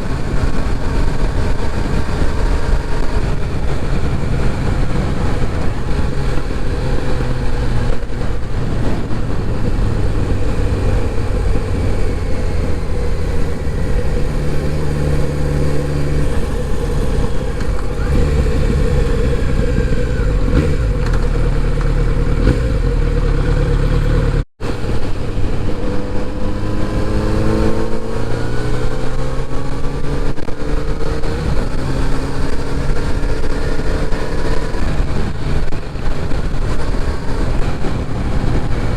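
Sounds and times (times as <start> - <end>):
motorcycle engine accelerating: 0.0 - 38.9
road and wind noise: 0.0 - 38.9.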